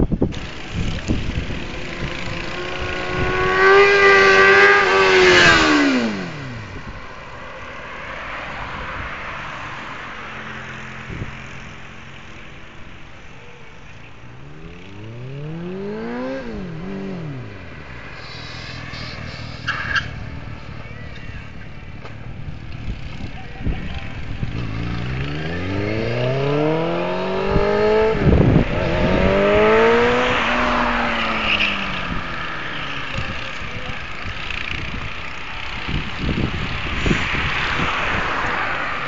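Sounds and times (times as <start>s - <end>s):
motorcycle engine revving: 0.1s - 7.4s, 14.2s - 39.0s.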